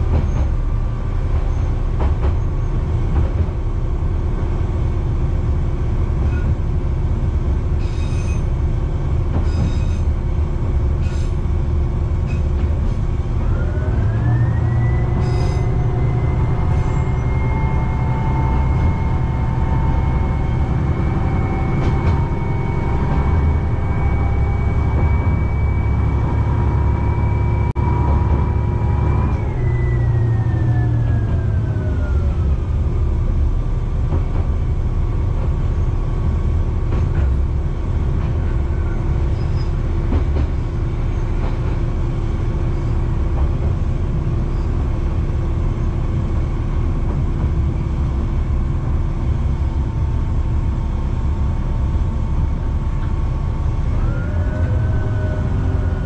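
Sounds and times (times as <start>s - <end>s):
diesel railcar engine rumbling: 0.0s - 56.0s.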